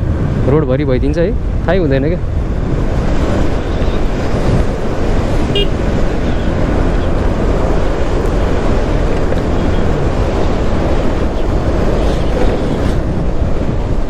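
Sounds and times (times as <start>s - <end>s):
wind buffeting microphone: 0.0s - 14.0s
motorcycle engine: 1.4s - 14.0s.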